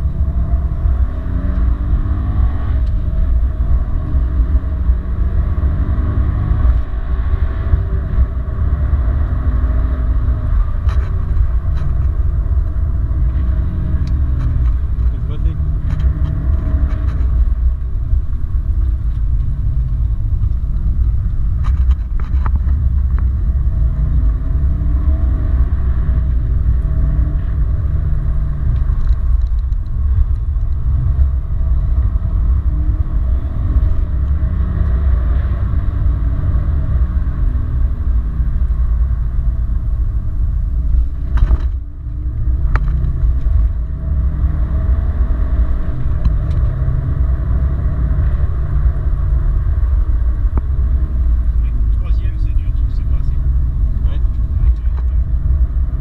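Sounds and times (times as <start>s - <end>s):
cabin and road noise: 0.0s - 56.0s
car engine revving: 0.0s - 56.0s.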